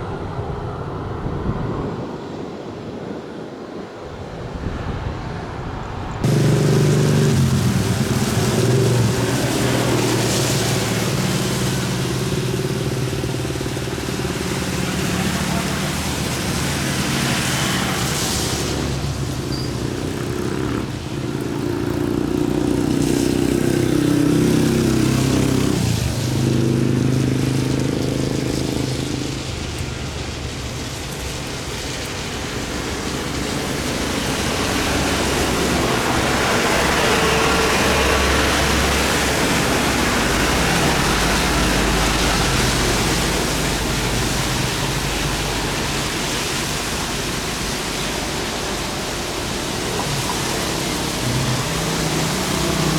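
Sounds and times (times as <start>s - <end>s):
jet engine roar: 0.0s - 21.2s, 23.5s - 52.9s
road vehicle engines running: 4.8s - 52.9s.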